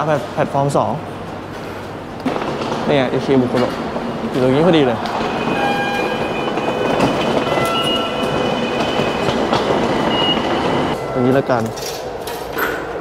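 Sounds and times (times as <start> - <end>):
subway train wheel and motor noise: 0.0 - 13.0.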